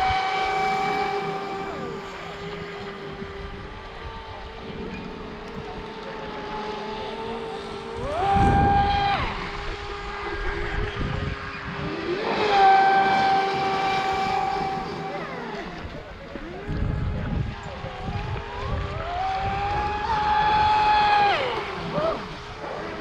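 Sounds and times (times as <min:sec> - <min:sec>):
boat motor surging in pitch: 0:00.0 - 0:23.0
steady boat motor whine: 0:00.0 - 0:23.0
water rushing: 0:00.0 - 0:23.0.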